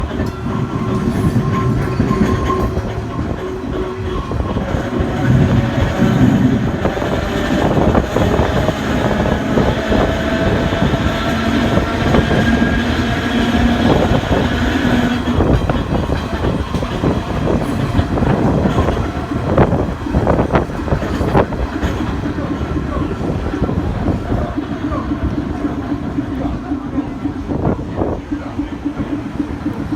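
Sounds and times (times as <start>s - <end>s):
streetcar rumbling on rails: 0.0s - 29.9s
wheels clattering on track: 0.0s - 29.9s.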